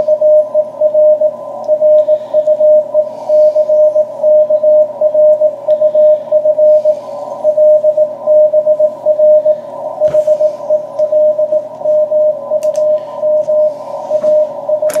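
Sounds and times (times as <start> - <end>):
morse code beeps: 0.0 - 15.0
receiver hiss: 0.0 - 15.0.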